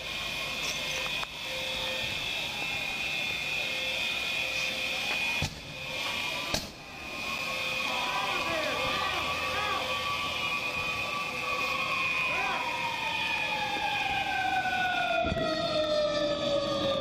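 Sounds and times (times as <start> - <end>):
high-pitched alarm tones: 0.0 - 17.0.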